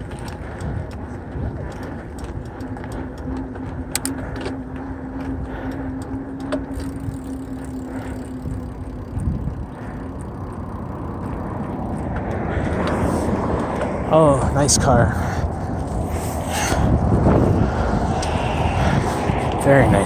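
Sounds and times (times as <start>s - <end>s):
steady hum: 0.0s - 13.4s, 15.2s - 20.0s
bike tyre noise: 0.0s - 20.0s
sharp clicks and rattles: 0.0s - 20.0s
wind noise on microphone: 0.0s - 20.0s.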